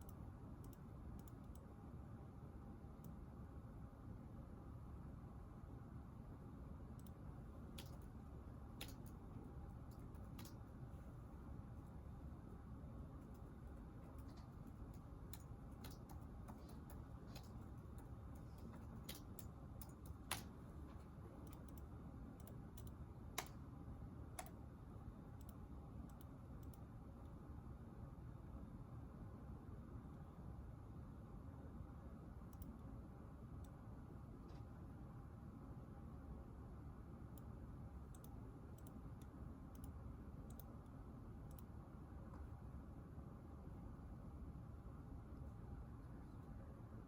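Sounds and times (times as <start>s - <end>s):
room hum: 0.0s - 47.0s.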